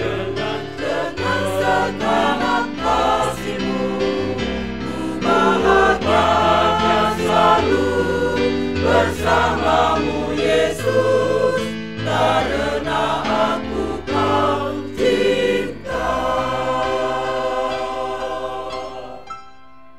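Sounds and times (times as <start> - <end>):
choir singing a hymn: 0.0 - 19.6.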